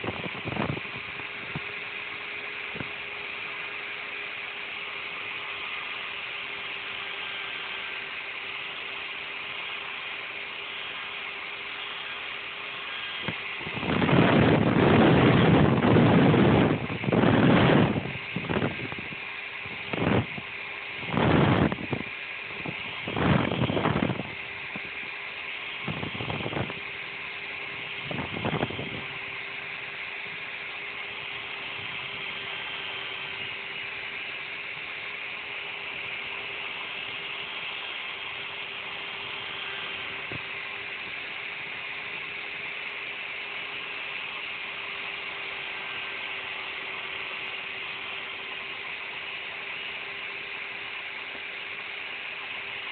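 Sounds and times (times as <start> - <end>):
electric drill spinning: 0.0 - 52.9.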